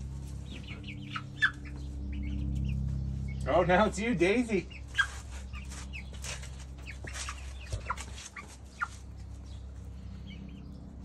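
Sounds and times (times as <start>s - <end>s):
hens calling: 0.0s - 10.6s.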